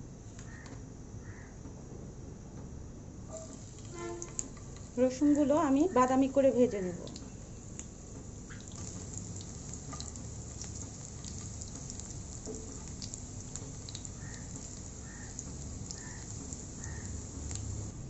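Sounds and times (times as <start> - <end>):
garlic sizzling in oil: 3.3 - 18.0.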